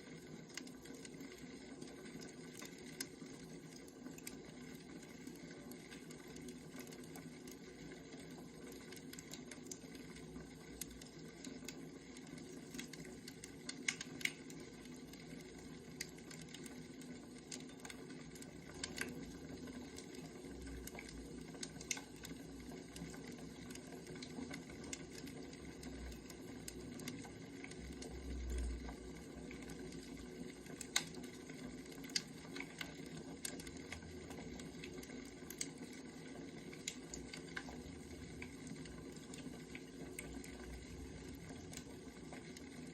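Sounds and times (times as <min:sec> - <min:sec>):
firewood crackling and popping: 0:00.4 - 0:42.9.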